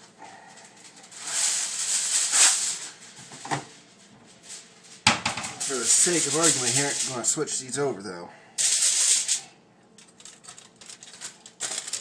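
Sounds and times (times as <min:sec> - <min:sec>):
aluminium foil crinkling: 0:00.5 - 0:07.7, 0:08.6 - 0:12.0.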